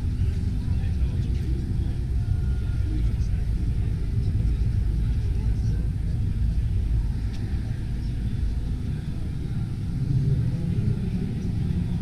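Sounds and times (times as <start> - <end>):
low rumble of hall background noise: 0.0 - 12.0.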